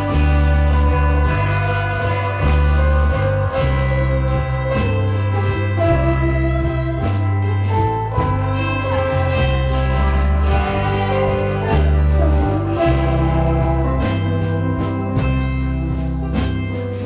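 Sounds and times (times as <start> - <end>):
voices singing together: 0.0 - 15.4
band playing a song: 0.0 - 17.0
bass line: 0.0 - 17.0.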